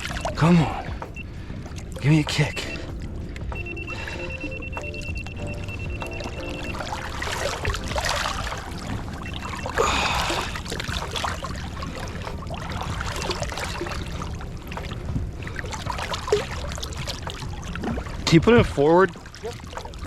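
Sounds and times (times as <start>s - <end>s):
water sloshing against boat: 0.0s - 20.0s.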